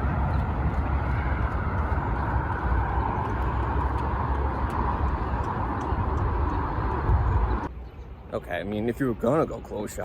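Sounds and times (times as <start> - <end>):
highway traffic drone: 0.0 - 10.0.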